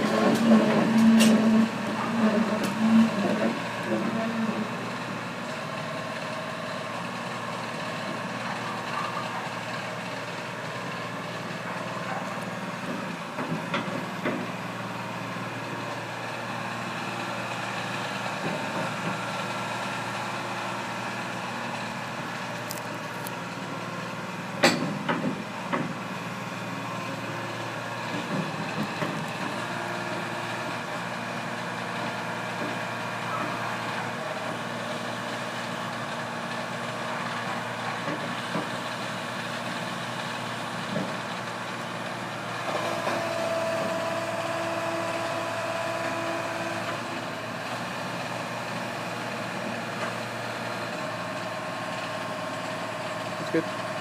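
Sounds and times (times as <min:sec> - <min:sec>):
excavator diesel engine idling: 0:00.0 - 0:54.0.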